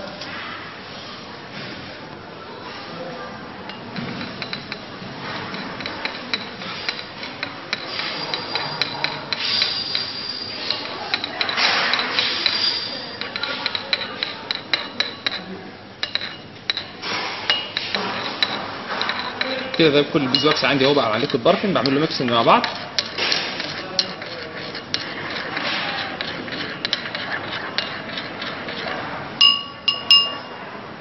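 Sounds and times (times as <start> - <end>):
glass rod scraping porcelain dish: 3.7 - 30.6.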